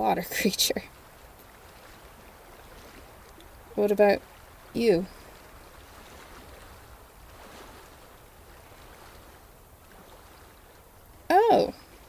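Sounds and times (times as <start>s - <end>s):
gently moving lake water: 0.0s - 12.0s.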